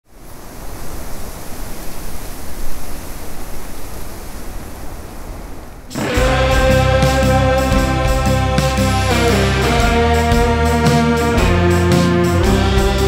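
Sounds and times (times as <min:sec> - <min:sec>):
rushing noise: 0:00.1 - 0:13.0.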